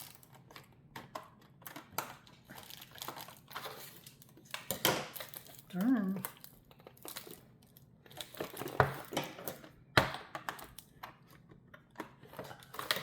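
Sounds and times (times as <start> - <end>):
plastic packaging clicking and crinkling: 0.0 - 13.0.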